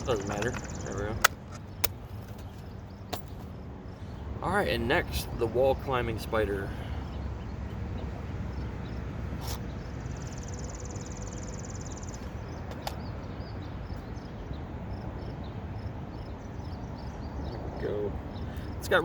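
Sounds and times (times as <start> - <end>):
insect or bird chirps: 0.0 - 5.1, 7.0 - 19.0.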